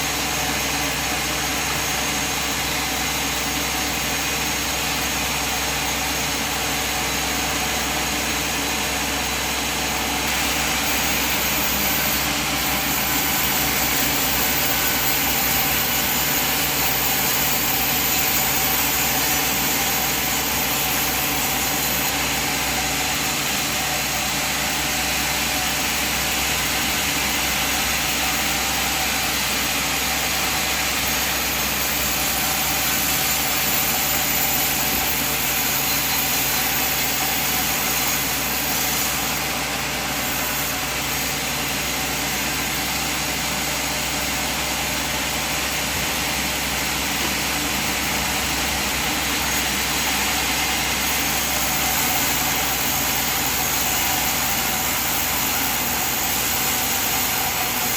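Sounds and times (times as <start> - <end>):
sawmill machine humming: 0.0 - 57.9.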